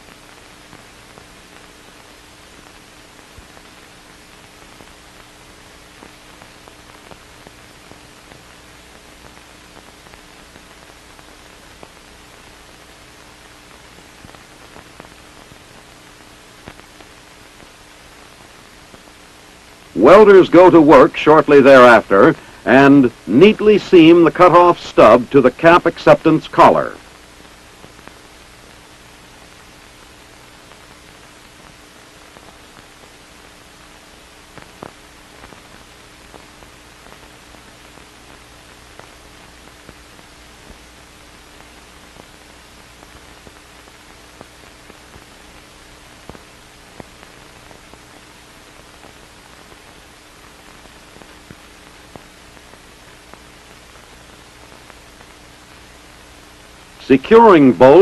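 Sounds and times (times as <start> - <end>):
faint constant hum: 0.0 - 58.0
film soundtrack hiss: 0.0 - 58.0.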